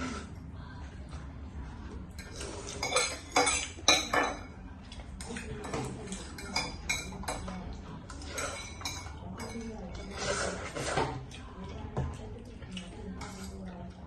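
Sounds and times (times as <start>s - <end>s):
utensils clinking on a dish: 2.1s - 14.0s.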